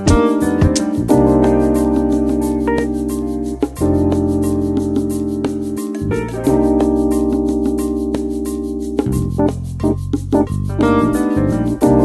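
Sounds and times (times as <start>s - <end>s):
background music held chord: 0.0s - 12.0s
quick ticking beat: 0.0s - 12.0s.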